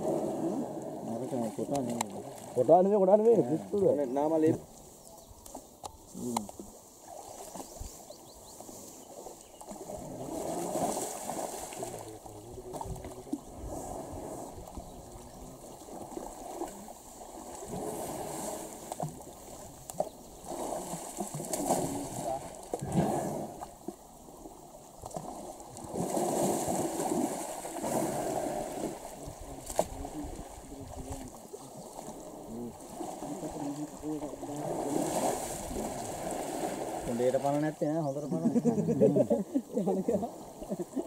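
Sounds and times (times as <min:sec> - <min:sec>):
muddy water sloshing and splashing: 0:00.0 - 0:37.9.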